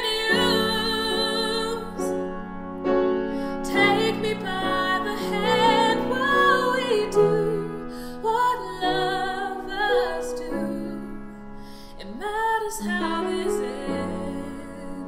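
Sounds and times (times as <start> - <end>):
woman singing a slow ballad: 0.0 - 2.2, 3.4 - 15.0
piano accompaniment: 0.0 - 15.0.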